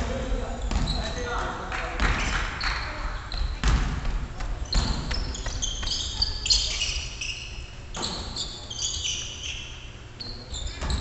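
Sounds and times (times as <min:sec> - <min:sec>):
shoes squeaking on gym floor: 0:00.5 - 0:01.5, 0:02.2 - 0:03.7, 0:04.4 - 0:11.0.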